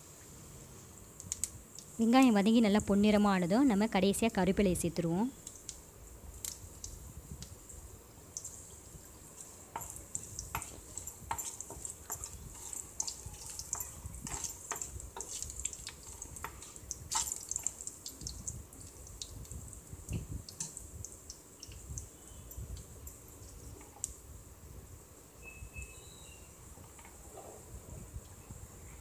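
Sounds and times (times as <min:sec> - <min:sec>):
spices sizzling in hot oil: 0:00.2 - 0:24.5.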